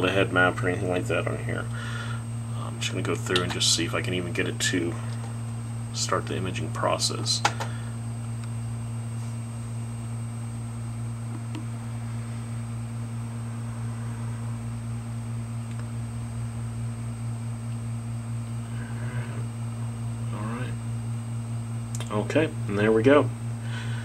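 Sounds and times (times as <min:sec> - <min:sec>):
computer hum and fan noise: 0:00.0 - 0:24.0
faint high whine: 0:00.0 - 0:24.0
hard drive spinning: 0:00.0 - 0:24.0.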